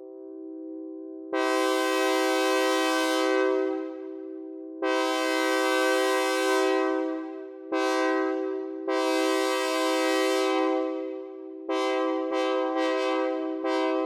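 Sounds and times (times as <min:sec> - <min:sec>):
synthesized train horn blasts: 0:01.4 - 0:04.0, 0:04.8 - 0:14.0.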